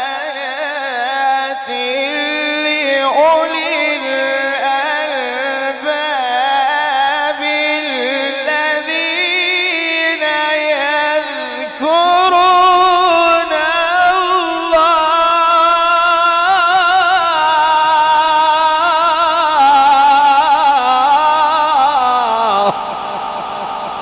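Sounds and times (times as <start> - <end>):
man reciting in melodic chant: 0.0 - 22.8.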